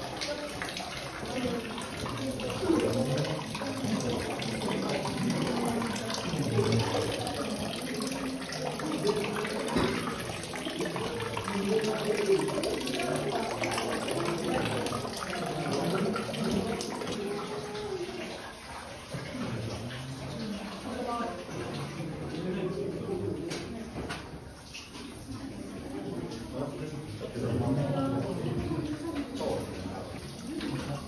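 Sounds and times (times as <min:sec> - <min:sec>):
water trickling and splashing on stones: 0:00.0 - 0:31.0.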